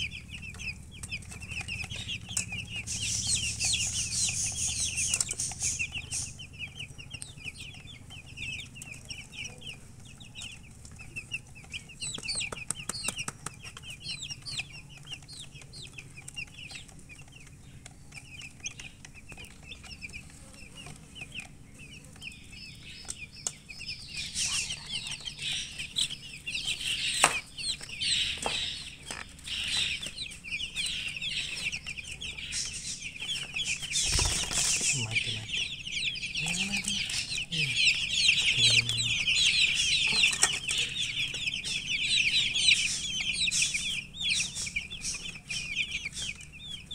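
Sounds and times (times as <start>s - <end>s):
chicks peeping: 0.0s - 46.9s.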